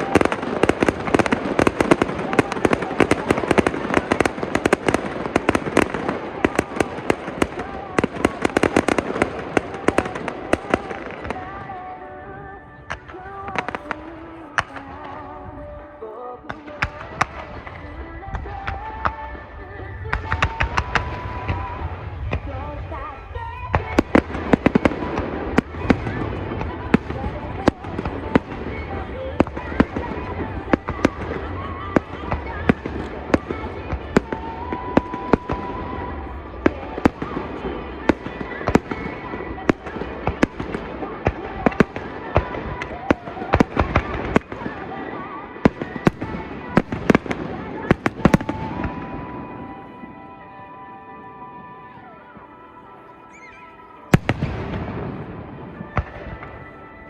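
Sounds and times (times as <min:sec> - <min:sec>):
fireworks bursting with sharp bangs: 0:00.0 - 0:57.0
music playing: 0:00.0 - 0:57.0.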